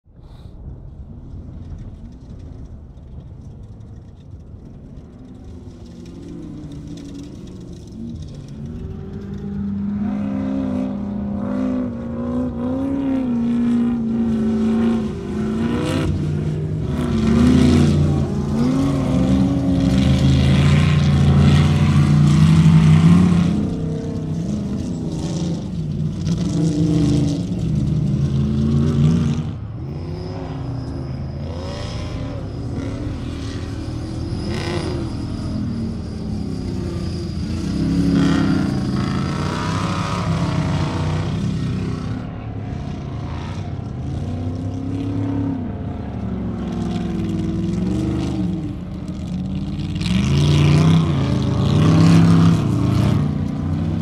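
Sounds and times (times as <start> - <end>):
race car engines revving: 1.1 - 54.0.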